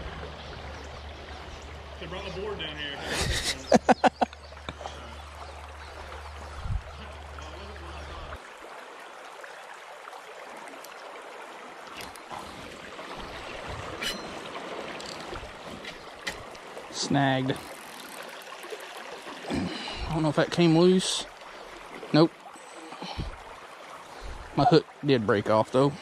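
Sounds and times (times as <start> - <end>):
creek water flowing and trickling: 0.0 - 26.0.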